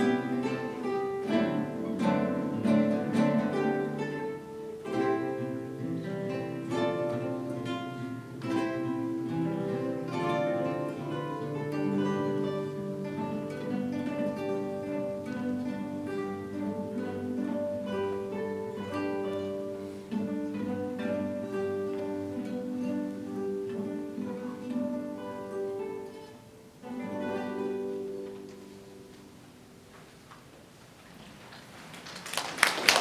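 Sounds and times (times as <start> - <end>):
acoustic classical guitars playing: 0.0 - 31.7.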